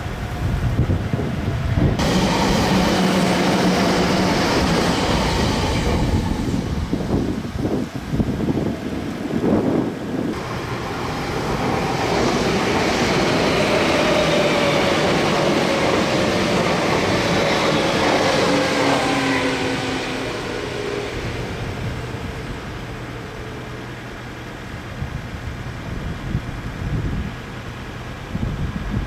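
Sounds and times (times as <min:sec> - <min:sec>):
electric train passing: 0:00.0 - 0:26.9.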